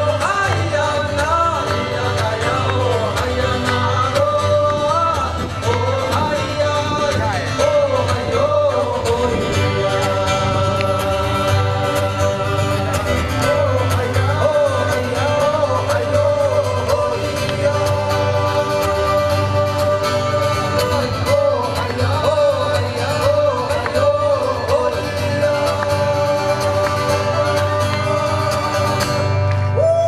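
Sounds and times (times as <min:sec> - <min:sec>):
live band playing: 0:00.0 - 0:30.0
person singing: 0:00.0 - 0:30.0
steady bass: 0:00.0 - 0:30.0.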